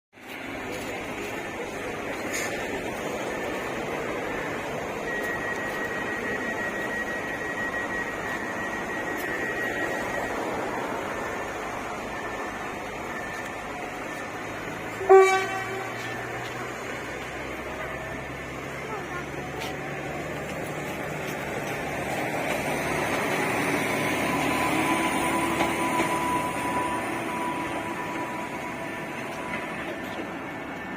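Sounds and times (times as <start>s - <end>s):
high whine: 0.2s - 30.9s
train pulling away: 0.2s - 30.9s.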